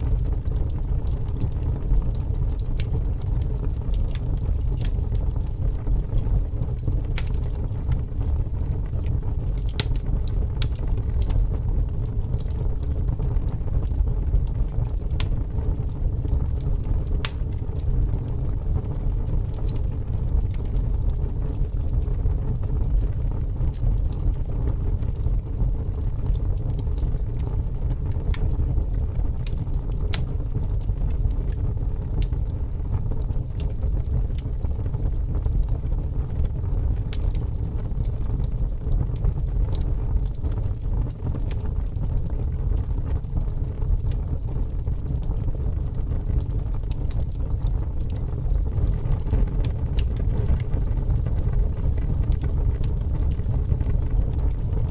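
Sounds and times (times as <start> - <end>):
fire crackling and rumbling: 0.0 - 54.9.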